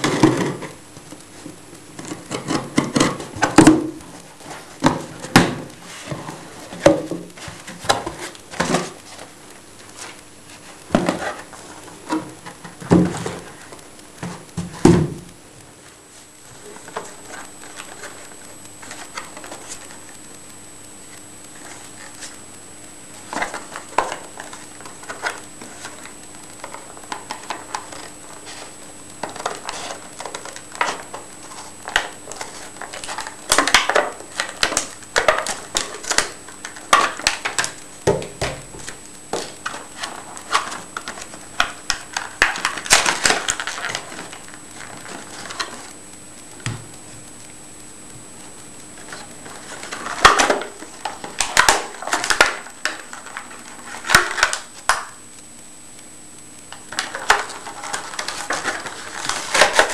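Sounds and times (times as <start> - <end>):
plastic packaging clicking and crinkling: 0.0 - 47.4, 48.6 - 55.5, 56.6 - 59.9.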